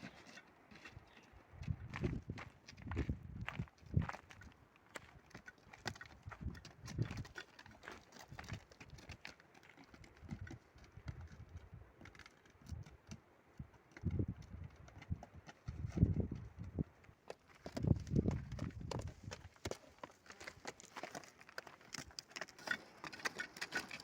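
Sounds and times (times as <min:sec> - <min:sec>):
footsteps on rough trail: 0:00.0 - 0:24.0.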